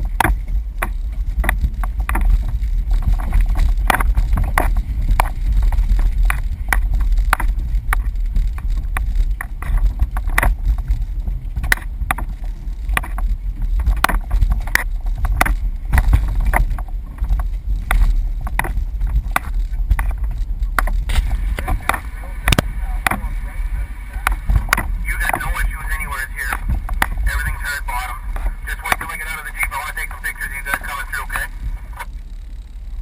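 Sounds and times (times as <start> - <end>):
low engine rumble: 0.0 - 33.0
vehicle knocks and rattles: 0.0 - 33.0.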